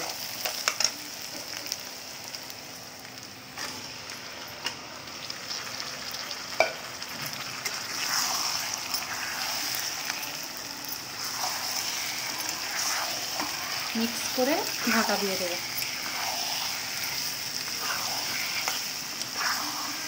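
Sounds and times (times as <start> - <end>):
chicken sizzling in oil: 0.0 - 20.0
onions sizzling in oil: 0.0 - 20.0.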